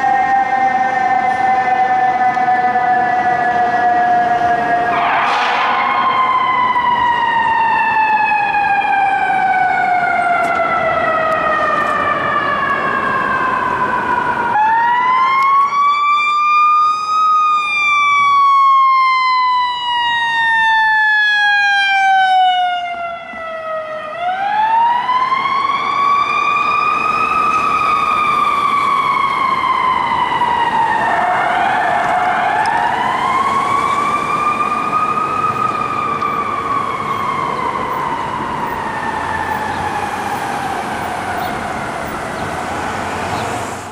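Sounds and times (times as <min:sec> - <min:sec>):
mechanical fire engine siren wailing: 0:00.0 - 0:43.9.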